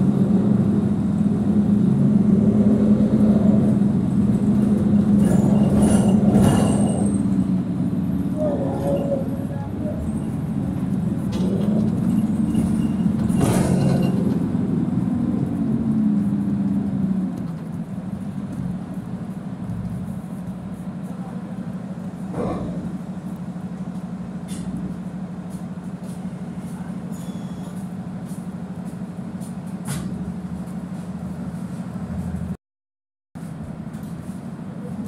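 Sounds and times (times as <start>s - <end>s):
bus body rattling: 0.0s - 32.5s
bus engine hum: 0.0s - 32.6s, 33.4s - 35.0s.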